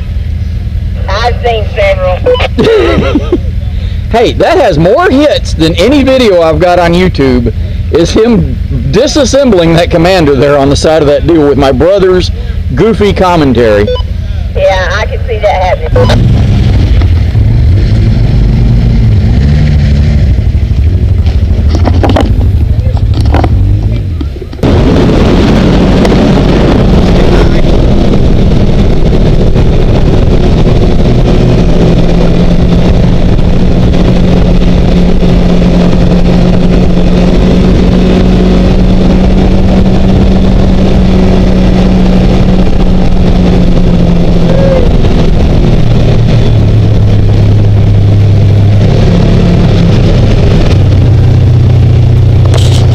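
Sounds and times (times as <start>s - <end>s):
road and wind noise: 0.0s - 52.9s
utility vehicle engine running: 0.0s - 52.9s.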